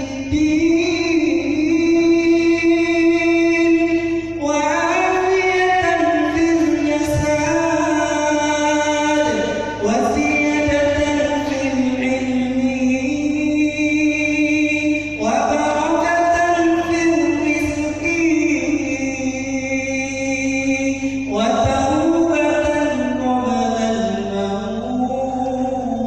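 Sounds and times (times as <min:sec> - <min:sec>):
person chanting a prayer: 0:00.0 - 0:26.0.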